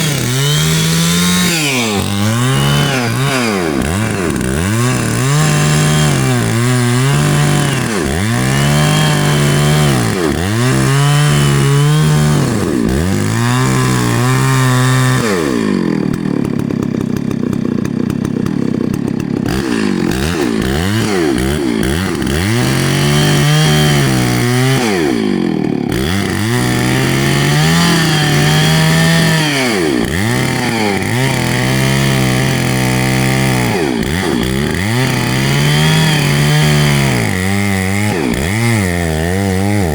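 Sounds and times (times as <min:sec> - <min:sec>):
chainsaw cutting into tree: 0:00.0 - 0:39.9.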